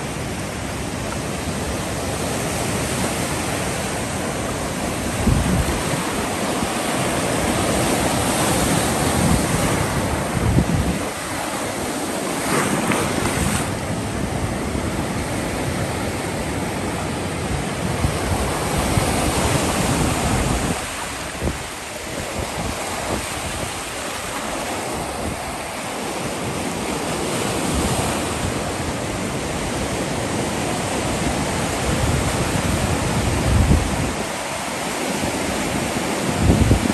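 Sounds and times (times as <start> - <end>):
waves breaking on shore: 0.0 - 36.9
wind gusting on microphone: 0.0 - 36.9.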